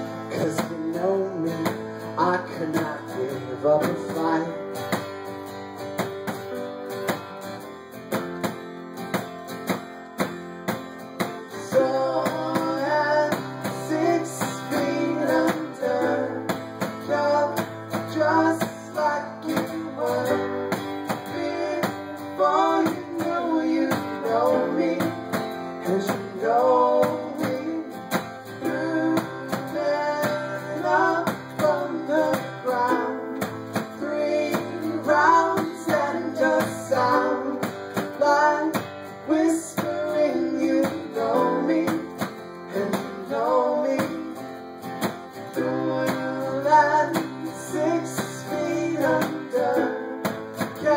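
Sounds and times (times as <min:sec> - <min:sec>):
man singing: 0:00.0 - 0:04.8, 0:11.4 - 0:44.5, 0:45.5 - 0:50.9
acoustic guitar strumming: 0:00.0 - 0:50.9.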